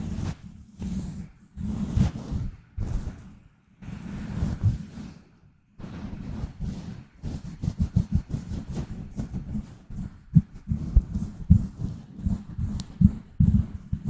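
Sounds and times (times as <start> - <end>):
fingers scratching on microphone: 0.0 - 3.4, 5.8 - 14.0.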